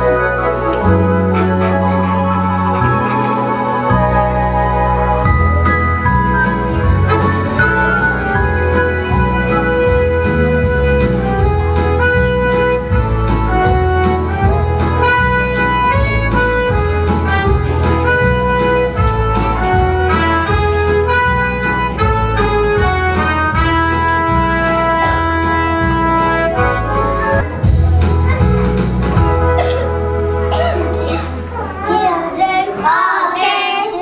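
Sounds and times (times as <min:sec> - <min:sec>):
instrumental music with steady beat: 0:00.0 - 0:31.7.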